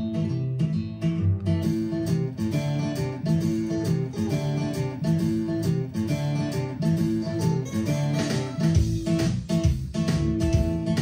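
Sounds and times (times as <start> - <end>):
plucked guitar music from speakers: 0.0 - 11.0.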